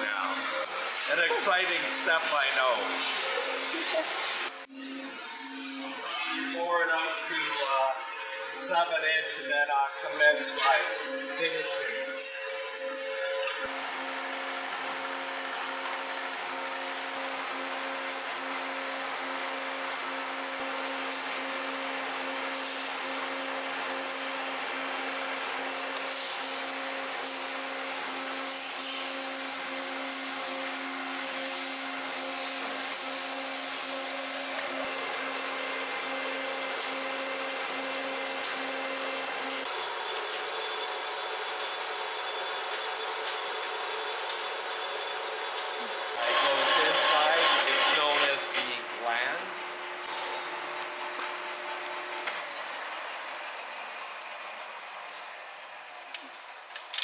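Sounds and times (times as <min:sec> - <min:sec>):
lathe running with steady whirr: 0:07.0 - 0:54.3.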